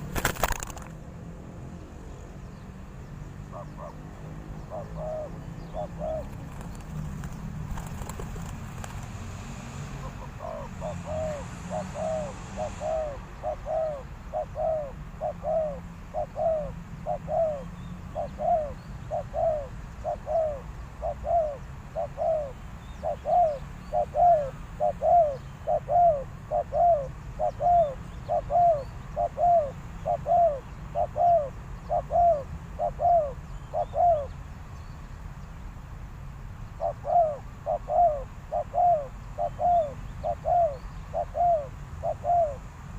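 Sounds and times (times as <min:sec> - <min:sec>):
dove cooing: 0:03.5 - 0:09.0, 0:09.9 - 0:34.3, 0:36.8 - 0:42.7.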